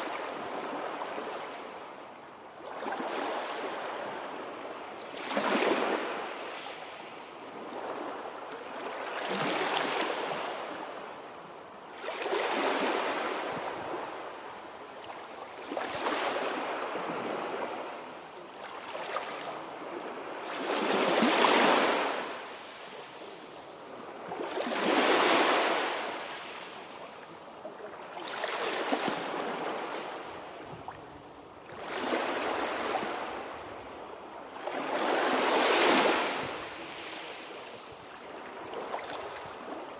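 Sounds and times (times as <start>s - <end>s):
waves washing ashore: 0.0s - 39.9s.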